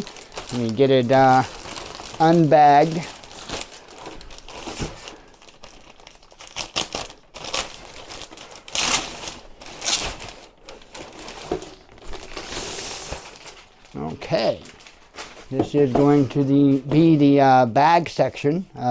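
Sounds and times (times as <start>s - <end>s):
plastic bag crinkling: 0.0s - 16.8s.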